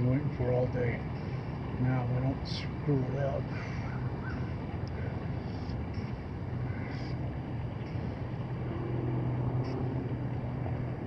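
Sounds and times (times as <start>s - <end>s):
low motor hum: 0.0s - 11.0s
water: 0.0s - 11.0s
wind rumble: 0.0s - 11.0s.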